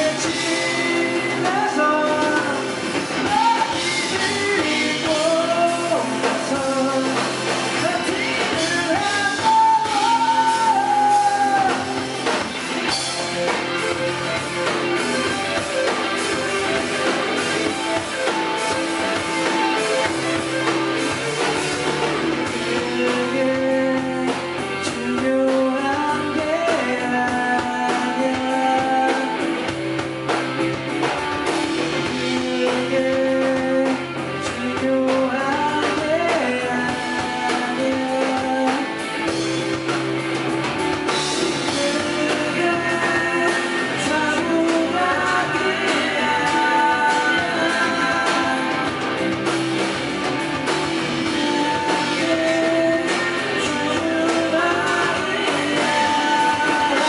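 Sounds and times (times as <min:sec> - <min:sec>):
person singing: 0:00.0 - 0:30.1, 0:31.2 - 0:40.1, 0:40.7 - 0:57.0
drum kit: 0:00.0 - 0:57.0
electric guitars: 0:00.0 - 0:57.0.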